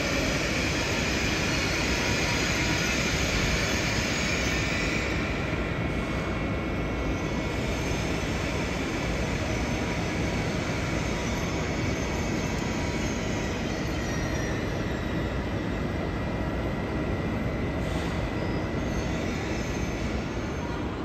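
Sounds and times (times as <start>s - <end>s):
train rumble and hiss: 0.0s - 21.0s.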